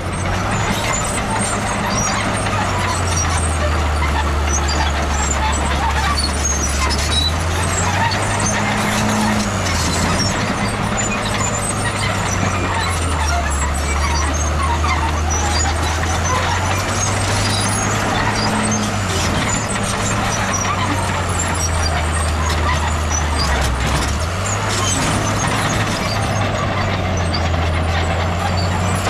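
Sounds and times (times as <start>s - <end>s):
heavy diesel machine engine drone: 0.0s - 29.0s.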